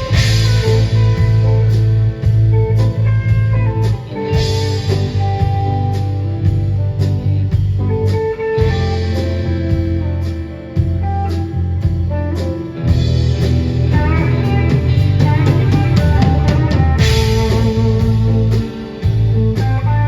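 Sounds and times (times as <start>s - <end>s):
bass: 0.0s - 20.0s
guitar lines: 0.0s - 20.0s
steady drum beat: 0.0s - 20.0s.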